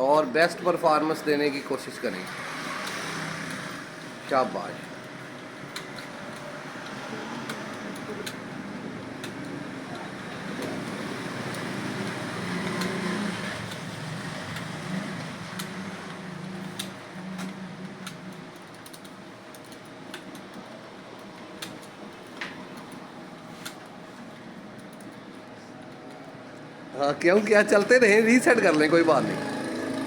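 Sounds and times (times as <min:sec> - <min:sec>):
computer keyboard typing: 0:00.4 - 0:26.7.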